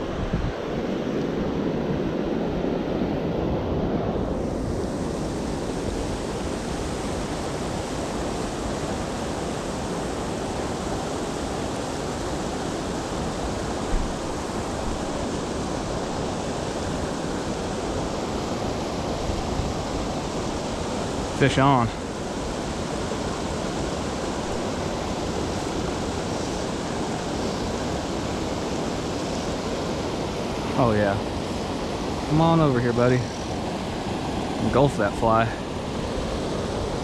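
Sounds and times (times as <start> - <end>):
wind buffeting microphone: 0.0 - 37.0
creek water over small falls: 4.3 - 37.0.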